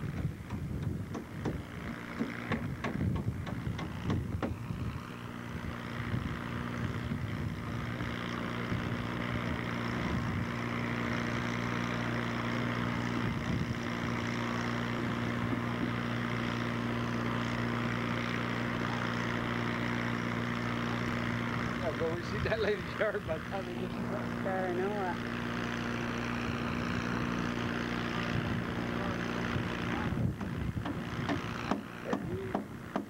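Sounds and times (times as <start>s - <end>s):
heavy truck engine running: 0.0s - 33.0s.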